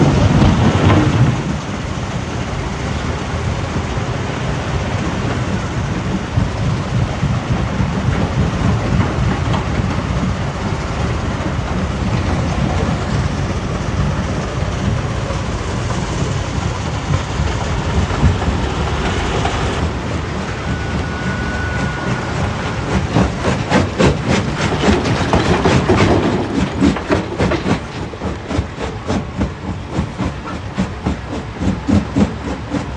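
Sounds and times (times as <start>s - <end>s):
heavy machinery rumble: 0.0s - 32.9s
rattling clatter: 4.9s - 32.9s.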